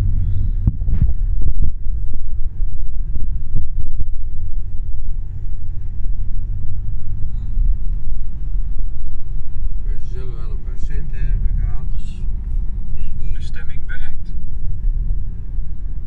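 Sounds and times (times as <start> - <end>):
car engine and tyres rumble: 0.0 - 16.0.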